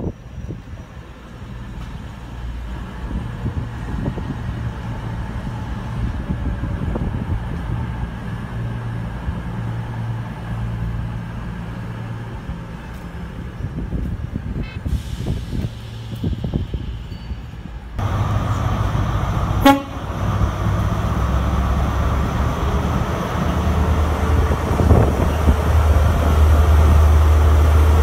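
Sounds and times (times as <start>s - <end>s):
diesel train engines droning: 0.0s - 28.0s.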